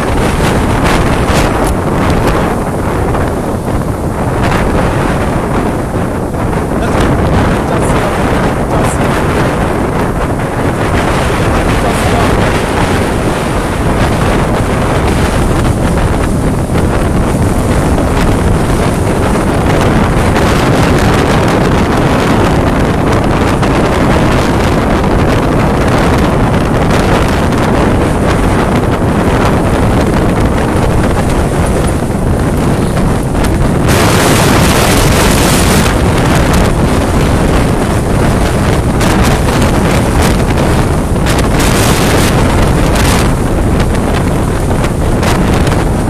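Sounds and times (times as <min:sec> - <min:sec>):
hissing rush: 0:00.0 - 0:46.0
rough sea and surf: 0:00.0 - 0:46.0
wind buffeting microphone: 0:00.0 - 0:46.0.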